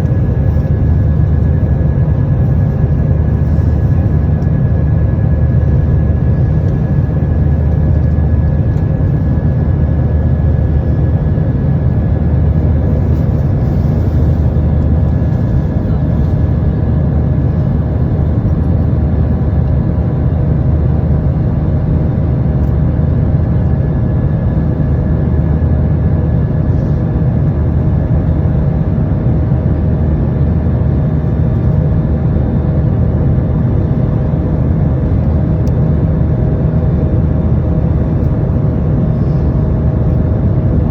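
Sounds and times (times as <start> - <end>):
jet engines deep rumble: 0.0 - 40.9.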